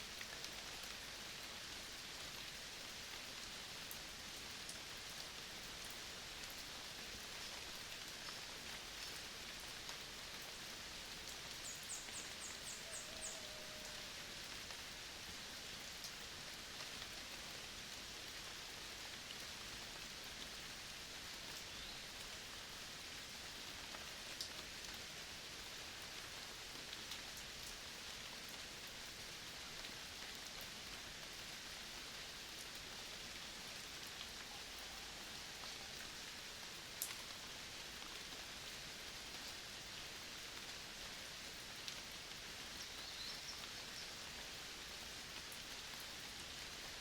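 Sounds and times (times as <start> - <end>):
rain on vegetation: 0.0 - 47.0.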